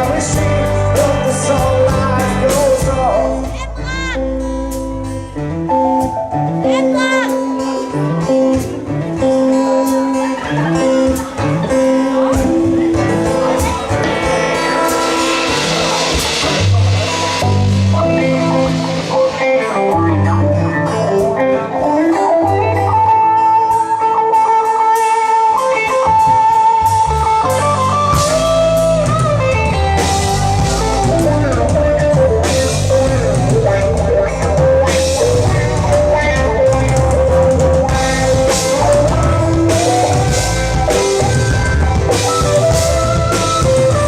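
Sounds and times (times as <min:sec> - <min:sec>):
bass: 0:00.0 - 0:44.0
drums: 0:00.0 - 0:44.0
electric guitar playing: 0:00.0 - 0:44.0.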